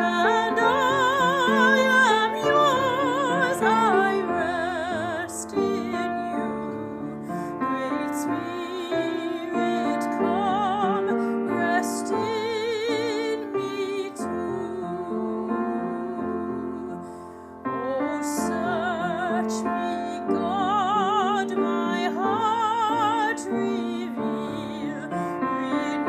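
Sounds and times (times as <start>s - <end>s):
person singing a hymn: 0.0s - 26.0s
piano accompaniment: 0.0s - 26.0s.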